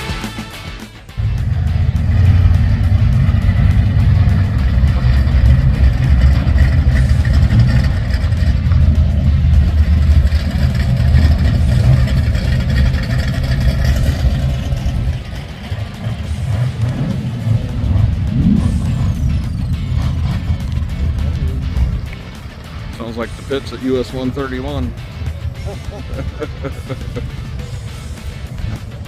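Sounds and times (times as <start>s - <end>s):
car engines rumbling: 0.0s - 29.0s.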